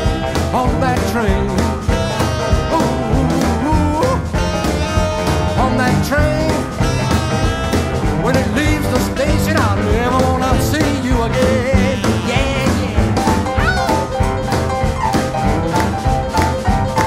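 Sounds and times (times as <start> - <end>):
drums: 0.0 - 17.0
electric guitar lead: 0.0 - 17.0
keyboard: 0.0 - 17.0
upright bass: 0.0 - 17.0.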